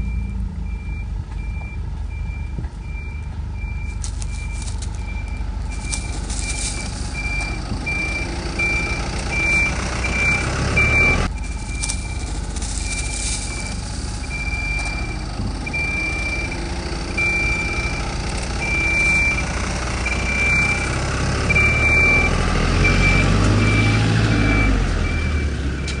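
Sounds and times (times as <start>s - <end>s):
reversing alarm beeps: 0.0s - 26.0s
truck engine running: 0.0s - 26.0s.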